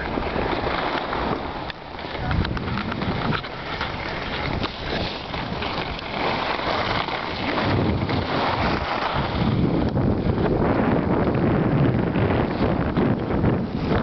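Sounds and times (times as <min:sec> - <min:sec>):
skis scraping over snow: 0:00.0 - 0:14.0
wind rumbling on microphone: 0:00.0 - 0:14.0.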